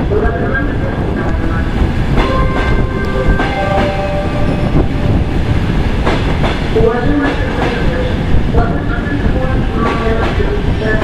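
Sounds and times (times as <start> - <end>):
train coaches rumbling: 0.0 - 11.0.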